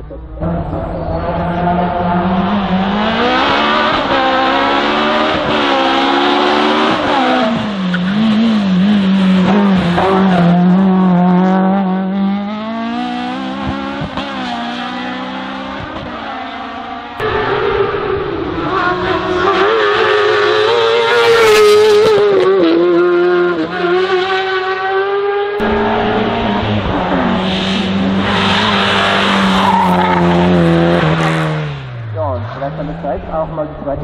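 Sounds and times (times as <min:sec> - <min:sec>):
racing car engine revving: 0:00.0 - 0:34.0.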